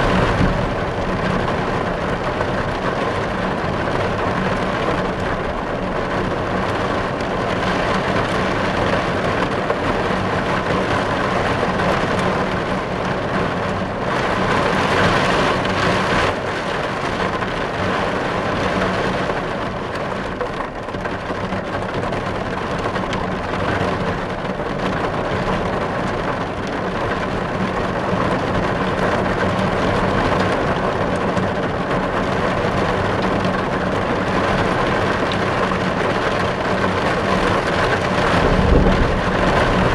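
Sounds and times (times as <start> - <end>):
heavy rain on car windows: 0.0 - 39.9.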